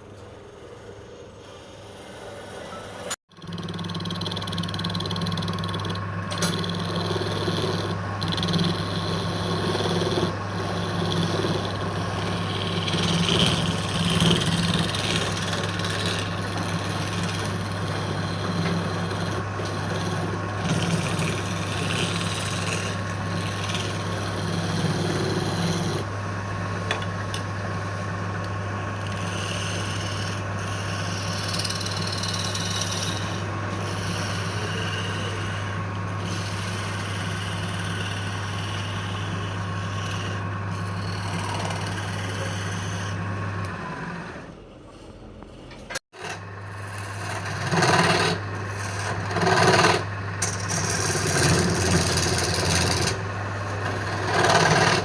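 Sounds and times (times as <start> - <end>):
wood lathe motor hum: 3.3 - 44.7, 45.3 - 55.0
tool scraping spinning wood: 3.4 - 55.0.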